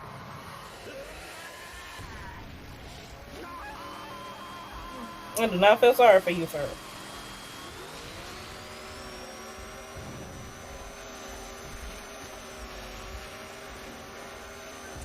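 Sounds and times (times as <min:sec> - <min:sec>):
steady droning hum: 0:00.0 - 0:15.0
thin high whine: 0:00.0 - 0:15.0.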